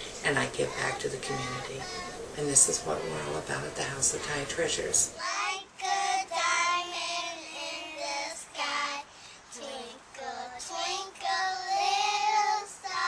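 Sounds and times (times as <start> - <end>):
girls singing together: 0.3 - 13.0.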